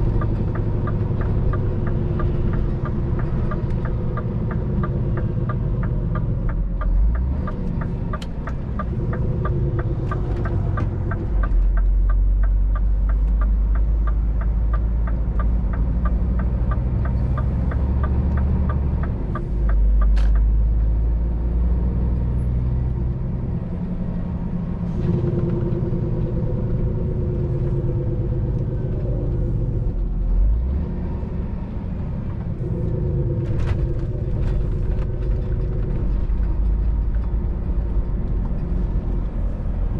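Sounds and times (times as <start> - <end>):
truck diesel engine and road noise: 0.0 - 39.9.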